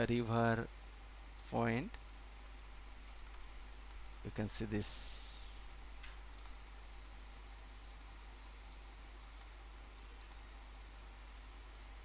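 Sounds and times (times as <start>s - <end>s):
low mains hum: 0.0s - 12.0s
microphone hiss: 0.0s - 12.0s.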